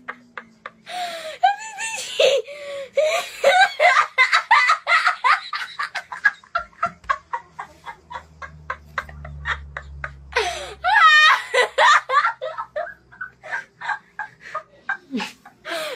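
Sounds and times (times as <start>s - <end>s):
boy laughing: 1.4s - 15.9s.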